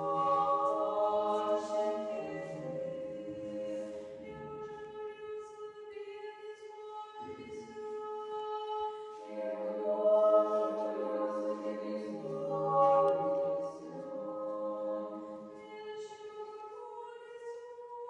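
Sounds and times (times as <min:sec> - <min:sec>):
choir singing a cappella chant: 0:00.0 - 0:05.0, 0:06.0 - 0:18.0.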